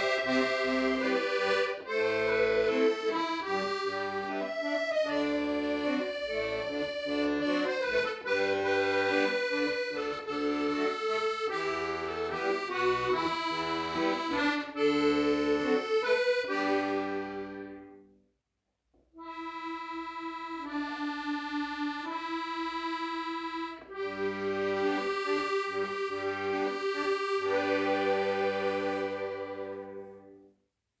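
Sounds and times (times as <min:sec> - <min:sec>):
accordion held chords: 0:00.0 - 0:18.2, 0:19.2 - 0:30.5.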